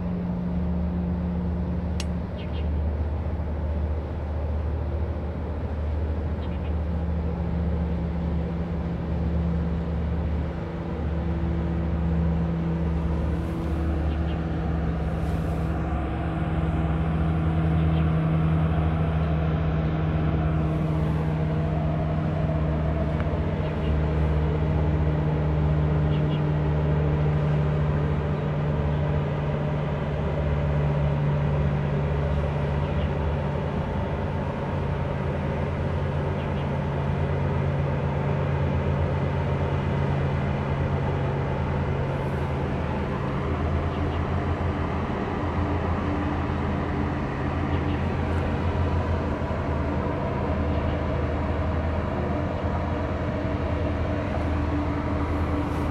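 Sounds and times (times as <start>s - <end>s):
ship machinery drone: 0.0s - 55.9s
throbbing engine pulse: 0.0s - 55.9s.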